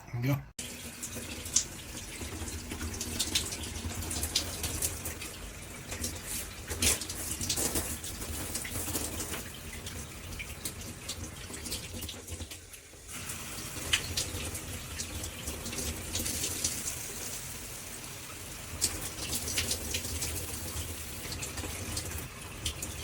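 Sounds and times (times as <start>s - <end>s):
shower spraying into bathtub: 0.6s - 23.0s.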